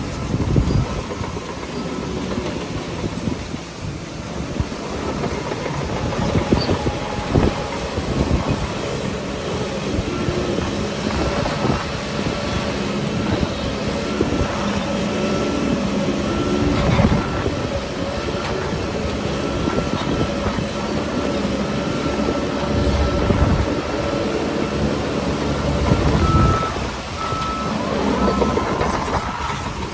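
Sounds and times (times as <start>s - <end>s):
bulldozer diesel engine: 0.0s - 29.9s
steel tracks clattering: 0.0s - 29.9s.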